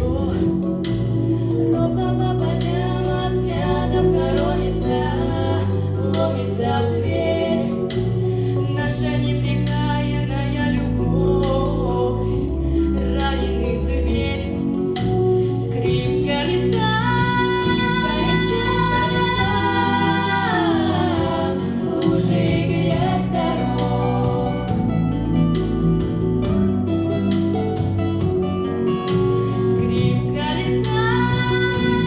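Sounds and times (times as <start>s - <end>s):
girls singing in harmony: 0.0s - 25.2s, 29.5s - 32.0s
musical accompaniment: 0.0s - 32.0s.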